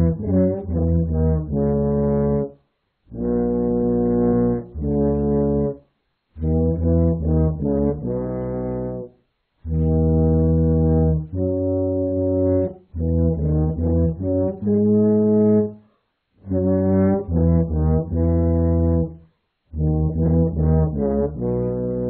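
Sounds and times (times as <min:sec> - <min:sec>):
trombone playing slow melody: 0:00.0 - 0:05.8, 0:06.4 - 0:15.8, 0:16.4 - 0:22.0.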